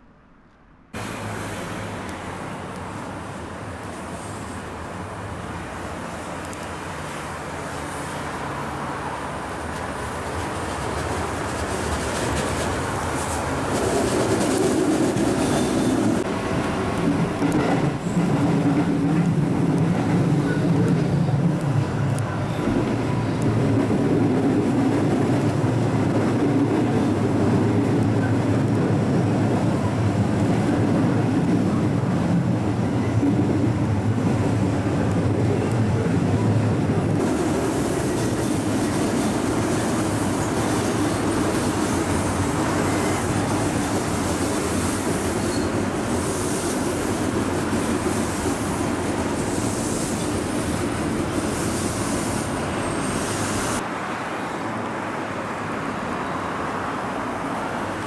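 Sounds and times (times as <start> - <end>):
train wheels and motors rumbling: 0.0 - 53.9
train passing close by: 0.8 - 58.0.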